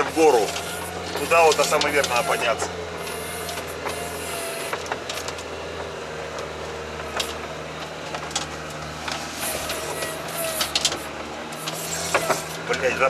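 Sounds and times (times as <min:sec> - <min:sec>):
atv engine running under load: 0:00.0 - 0:13.0
knocks and rattles over rough ground: 0:00.0 - 0:13.0.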